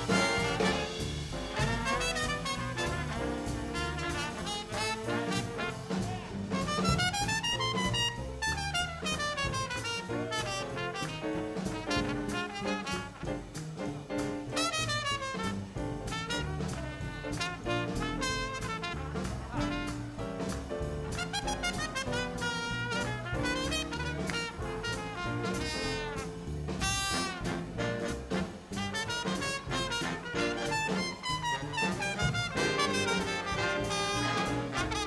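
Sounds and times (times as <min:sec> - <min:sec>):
swing big band playing: 0:00.0 - 0:35.0.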